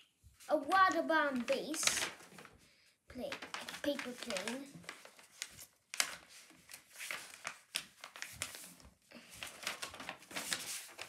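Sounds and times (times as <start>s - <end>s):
paper rustling and crinkling: 0.3s - 2.6s, 3.2s - 11.0s.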